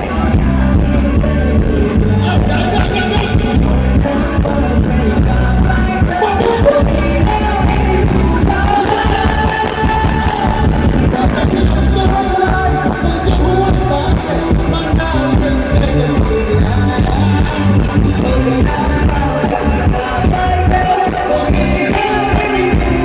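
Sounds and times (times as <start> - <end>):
heavy bass beat: 0.0 - 23.0
live band music: 0.0 - 23.0
person singing: 0.0 - 23.0.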